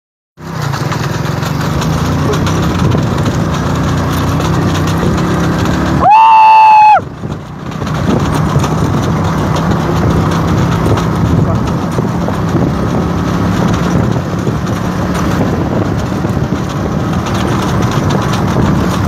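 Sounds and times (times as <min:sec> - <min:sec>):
road noise: 0:00.4 - 0:19.0
vehicle engine running: 0:00.4 - 0:19.0.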